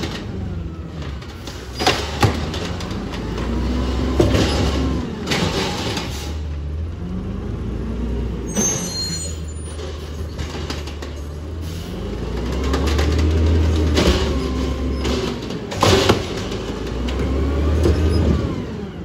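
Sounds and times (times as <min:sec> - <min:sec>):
garbage truck running: 0:00.0 - 0:19.0
hydraulics whining: 0:00.0 - 0:19.0.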